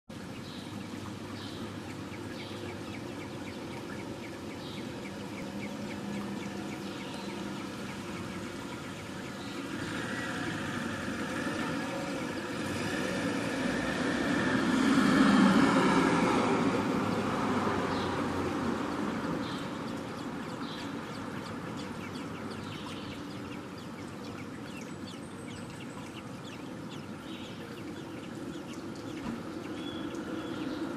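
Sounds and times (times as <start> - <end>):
traffic noise: 0.1 - 30.9
road vehicle passing: 0.2 - 30.9.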